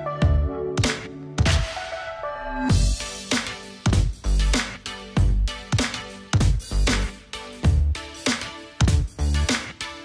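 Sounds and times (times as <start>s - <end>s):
music with rhythmic beat: 0.0s - 10.0s.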